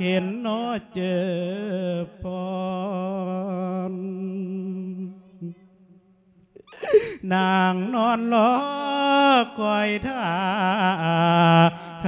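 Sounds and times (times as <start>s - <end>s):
man chanting: 0.0s - 5.7s, 7.2s - 12.0s.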